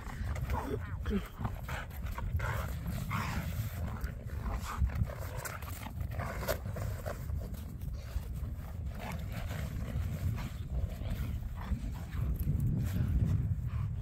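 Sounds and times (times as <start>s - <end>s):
dog panting: 0.0s - 6.1s, 7.9s - 14.0s
steady low rumble: 0.0s - 14.0s.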